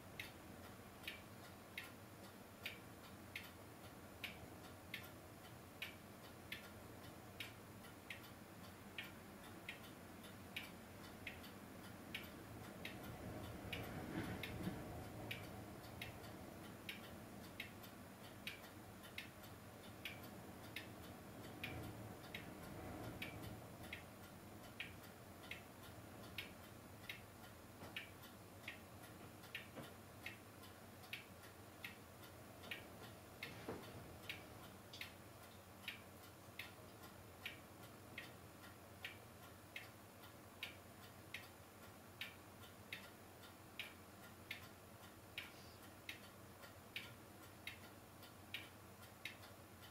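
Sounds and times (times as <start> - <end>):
faint ticking: 0.0 - 49.9
low steady hiss and hum: 0.0 - 49.9.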